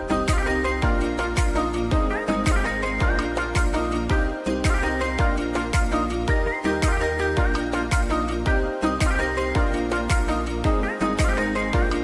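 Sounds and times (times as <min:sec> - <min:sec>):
background music with kick drum: 0:00.0 - 0:12.0.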